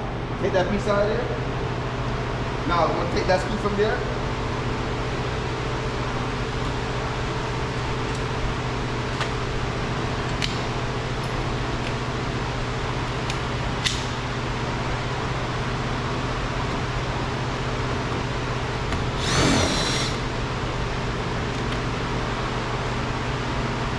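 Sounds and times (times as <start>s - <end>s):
steady mechanical hum: 0.0s - 23.9s.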